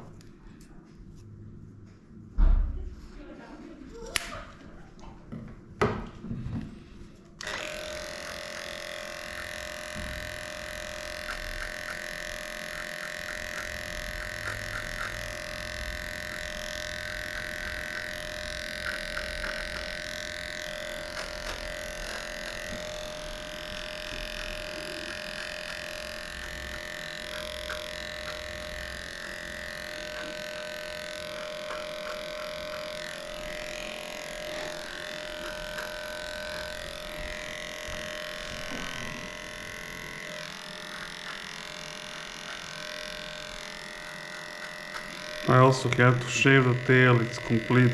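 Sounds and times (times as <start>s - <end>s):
electric clipper whining: 7.4s - 47.9s.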